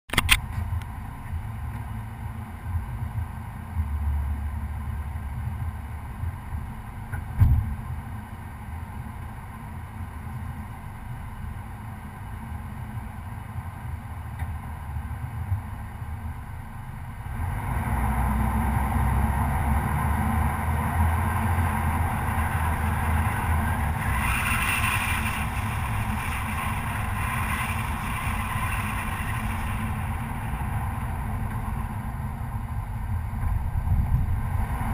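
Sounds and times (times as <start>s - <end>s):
pickup truck engine rumbling: 0.4s - 34.9s.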